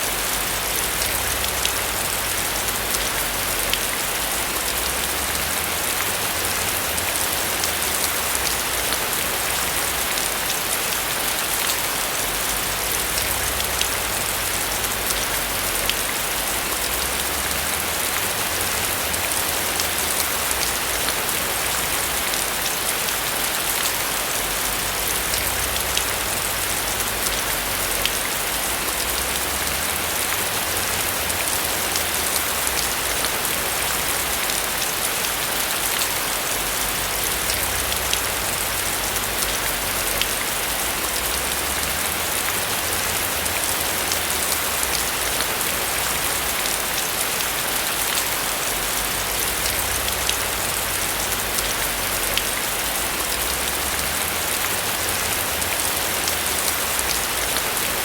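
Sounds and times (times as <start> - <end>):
heavy rain on roof: 0.0 - 58.0.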